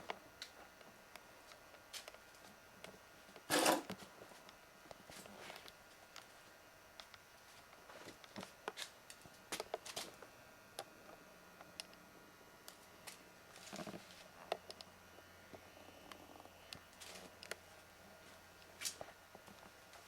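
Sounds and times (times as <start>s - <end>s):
faint handling clicks and rustles: 0.4s - 10.3s, 12.6s - 14.9s, 15.5s - 20.0s.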